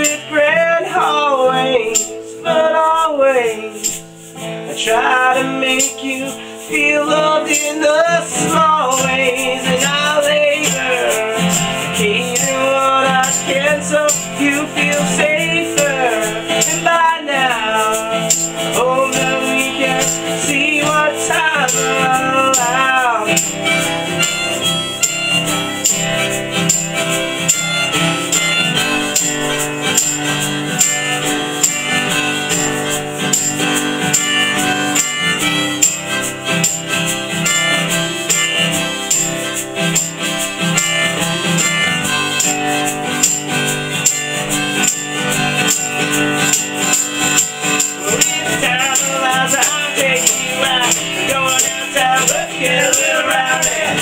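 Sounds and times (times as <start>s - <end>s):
folk band playing: 0.4s - 54.0s
wavering melody with bending notes: 6.9s - 54.0s
steady percussive beat: 8.4s - 54.0s.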